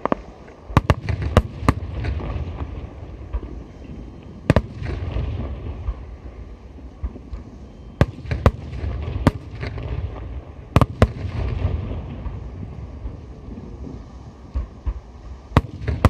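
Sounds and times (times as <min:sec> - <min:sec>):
low rumble of bursts: 0:00.0 - 0:16.0.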